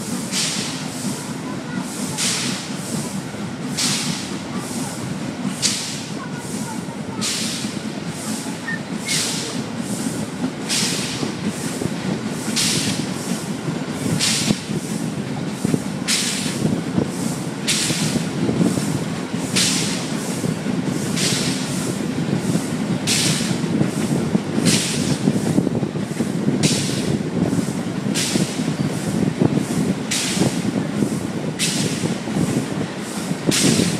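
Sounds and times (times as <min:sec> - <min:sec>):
steam locomotive chuffing: 0:00.0 - 0:33.9.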